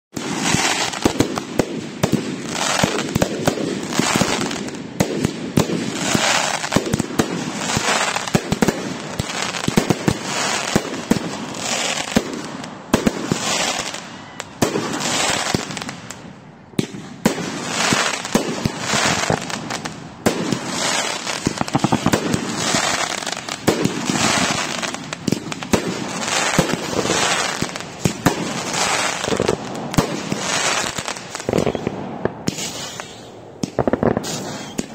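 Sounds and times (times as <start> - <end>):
fireworks popping and crackling: 0.1 - 34.9
fireworks hissing bursts: 0.2 - 4.8, 5.5 - 14.1, 17.4 - 34.9.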